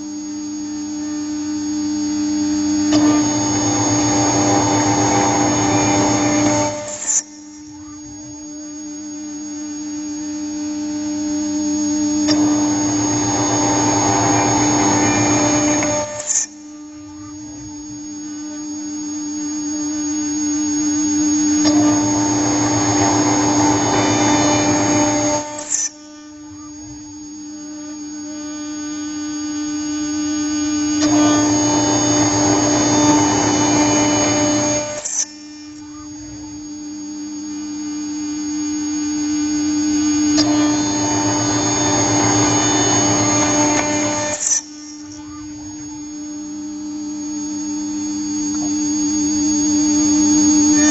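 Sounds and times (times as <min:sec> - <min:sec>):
harsh milling cutting noise: 0:00.0 - 0:50.9
motor hum: 0:00.0 - 0:50.9.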